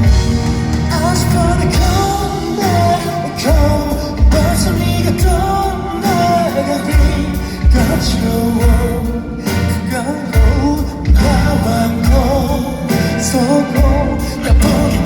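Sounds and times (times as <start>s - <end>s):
live pop music: 0.0s - 15.0s.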